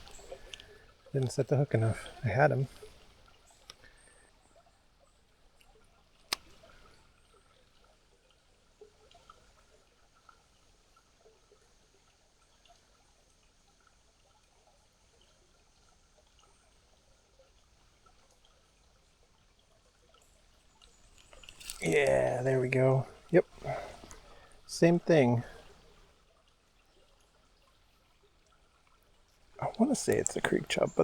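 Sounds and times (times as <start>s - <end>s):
creek water trickling: 0.0s - 31.0s.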